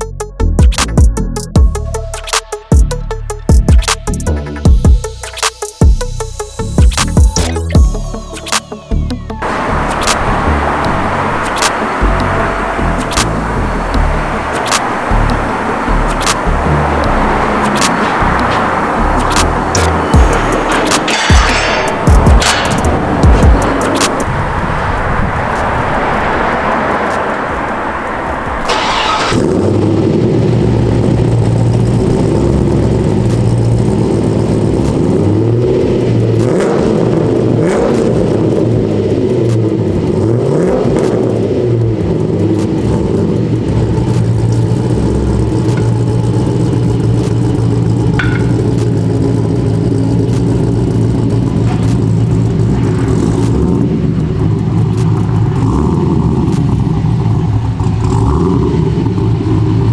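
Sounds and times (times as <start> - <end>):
loud car engine revving: 9.4 - 59.9.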